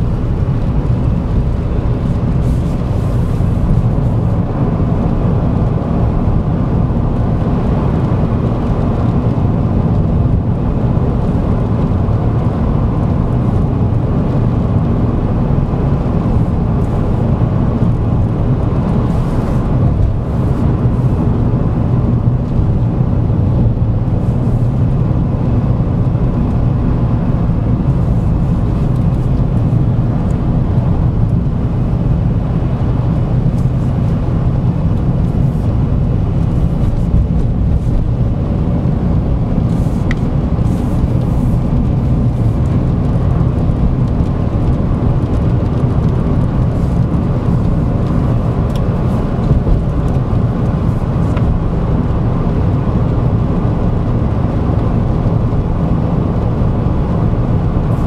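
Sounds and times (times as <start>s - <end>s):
car engine drone: 0.0s - 58.0s
road noise inside car: 0.0s - 58.0s.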